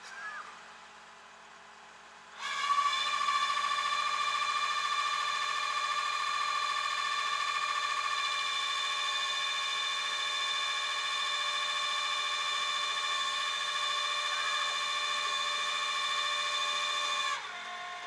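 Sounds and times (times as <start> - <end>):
hydraulic winch whine: 2.3 - 18.0.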